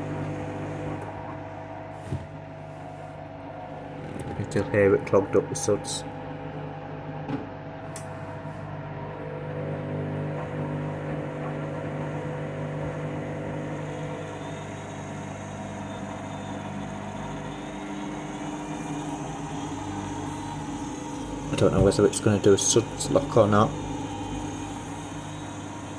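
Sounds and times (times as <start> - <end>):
washing machine motor hum: 0.0 - 25.9.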